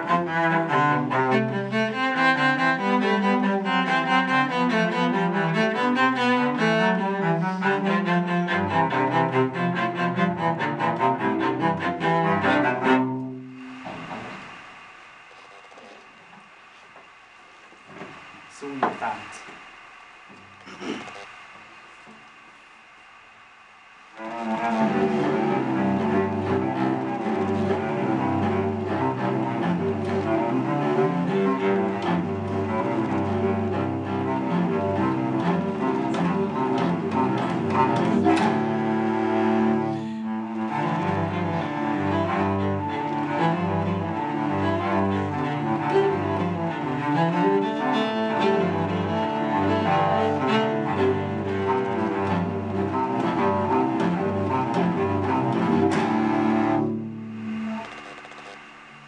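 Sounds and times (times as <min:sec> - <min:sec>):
two cellos playing a duet: 0:00.0 - 0:14.1, 0:24.2 - 0:57.9.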